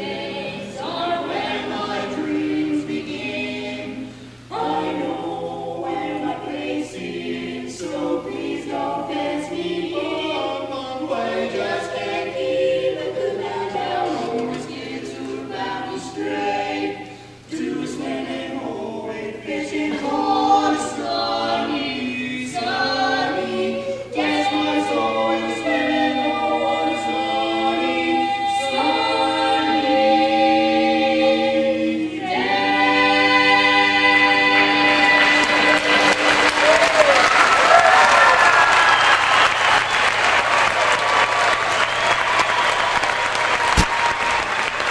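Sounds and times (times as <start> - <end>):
male quartet singing a cappella: 0.0 - 36.7.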